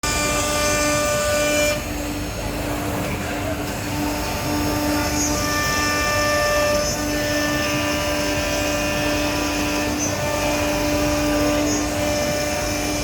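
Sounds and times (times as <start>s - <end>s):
router machine whining: 0.0s - 2.6s, 3.6s - 13.0s.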